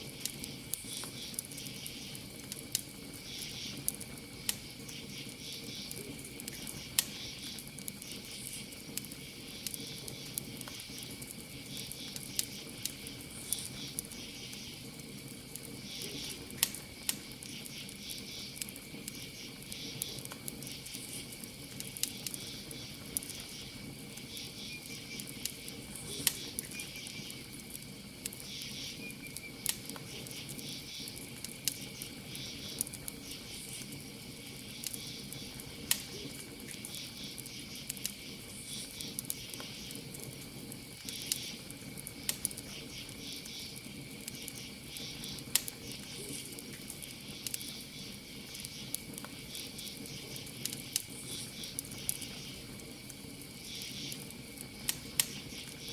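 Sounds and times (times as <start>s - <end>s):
campfire crackling and popping: 0.0s - 55.9s
crickets chirping: 0.0s - 55.9s
insect trill: 0.1s - 55.9s.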